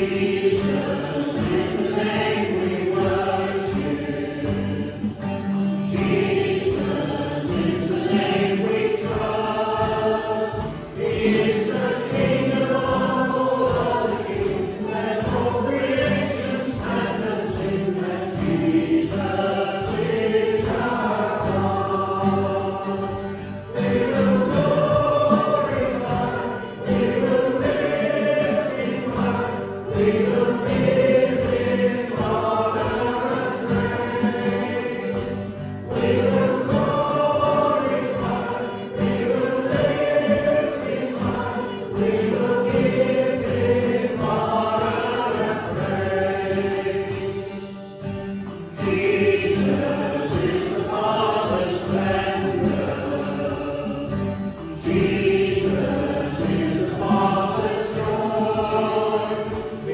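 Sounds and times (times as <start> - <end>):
congregation singing a hymn: 0.0 - 59.9
instrumental accompaniment: 0.0 - 59.9.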